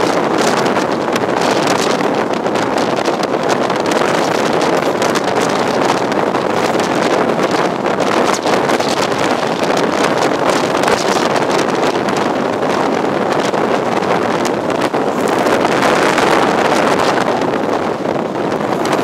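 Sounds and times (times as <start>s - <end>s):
train running noise: 0.0s - 19.0s
waves breaking against sea wall: 0.0s - 19.0s
wind buffeting microphone: 0.0s - 19.0s.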